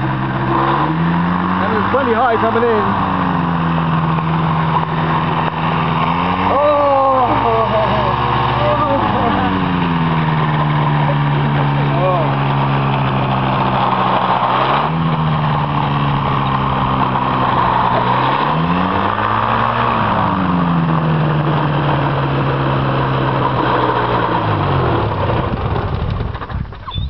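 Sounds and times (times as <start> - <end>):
ultralight engine and propeller idling: 1.5 - 18.2, 20.0 - 27.0.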